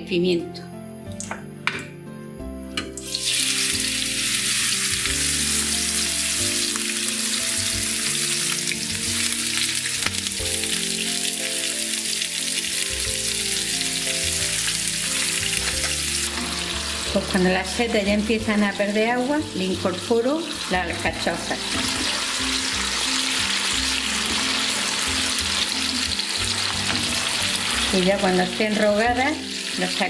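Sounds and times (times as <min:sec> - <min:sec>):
vegetables sizzling in hot oil: 0:03.0 - 0:30.0.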